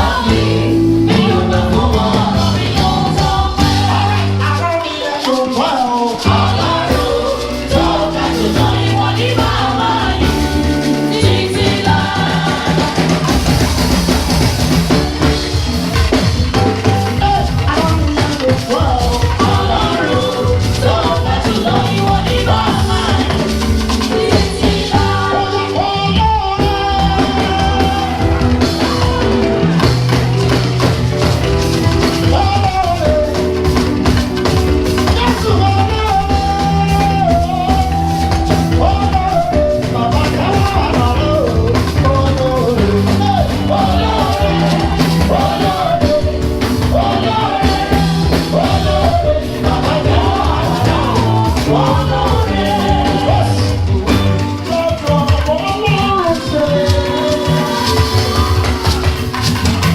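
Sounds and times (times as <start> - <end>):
man singing gospel: 0.0 - 30.0, 30.8 - 59.9
bass guitar: 0.0 - 59.9
drum kit: 0.0 - 59.9.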